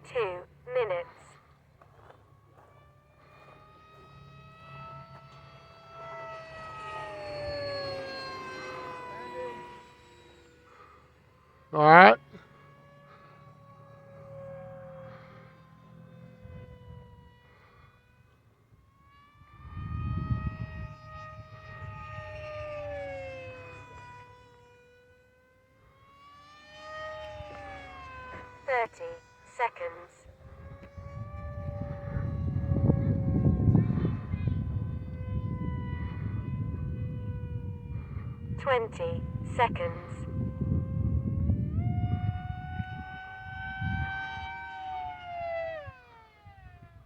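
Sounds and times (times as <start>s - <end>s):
model plane propeller whine: 0.0s - 47.0s.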